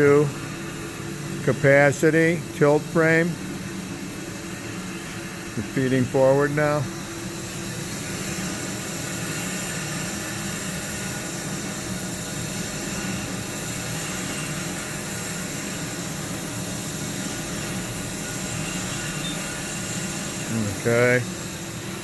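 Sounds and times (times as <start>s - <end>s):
bandsaw humming and hissing: 0.0s - 22.0s.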